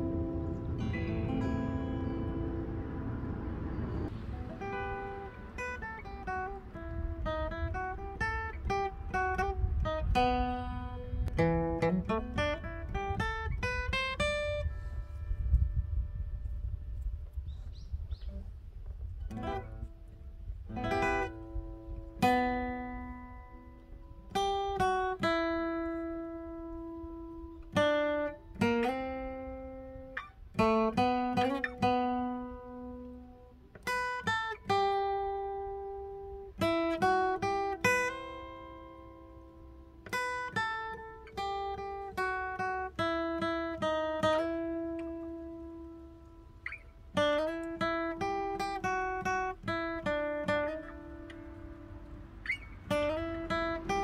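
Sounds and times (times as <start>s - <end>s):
acoustic guitar playing: 0.0s - 17.4s, 18.4s - 54.0s.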